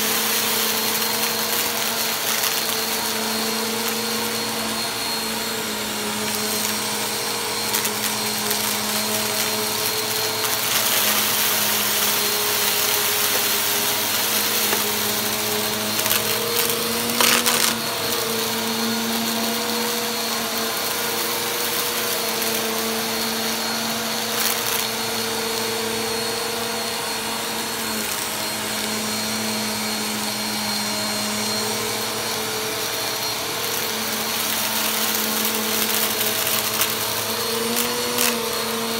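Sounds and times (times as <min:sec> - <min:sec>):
vacuum cleaner running on carpet: 0:00.0 - 0:38.9
vacuum crackle: 0:00.0 - 0:38.9.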